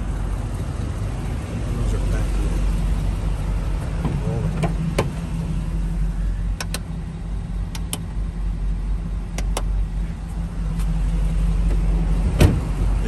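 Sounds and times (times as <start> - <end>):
engine idling inside cab: 0.0 - 13.0.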